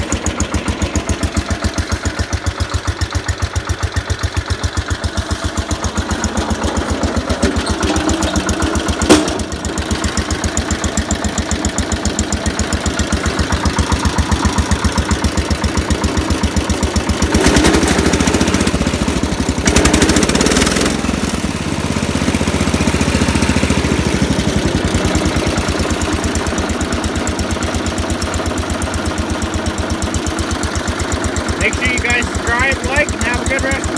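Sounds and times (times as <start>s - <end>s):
garden tractor engine running: 0.0s - 33.9s.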